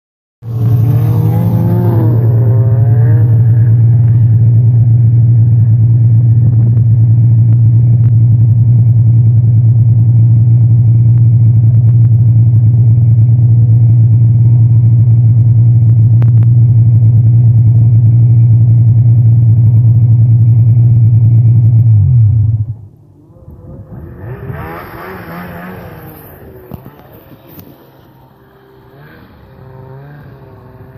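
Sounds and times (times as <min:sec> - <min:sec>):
snowmobile engine running: 0:00.4 - 0:30.9.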